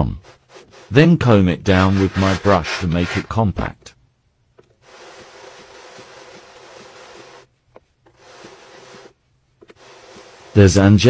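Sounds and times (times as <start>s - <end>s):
drum carder brushing: 0.0s - 3.7s, 4.8s - 11.0s.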